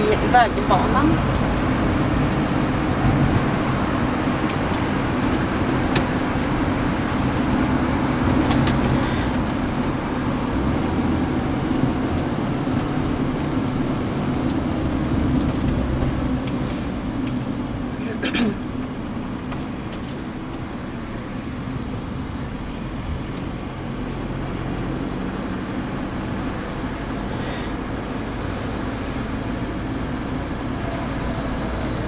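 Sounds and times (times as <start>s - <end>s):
engine and tyre drone: 0.0s - 32.0s.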